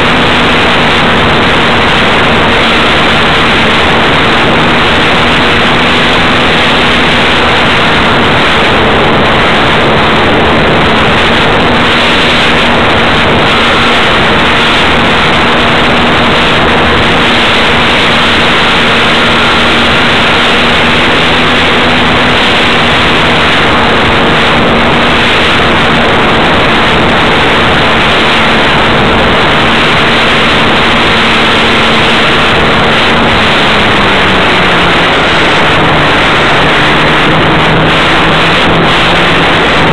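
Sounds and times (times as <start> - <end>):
loud rushing noise: 0.0 - 39.9
model airplane motor hum: 0.0 - 39.9.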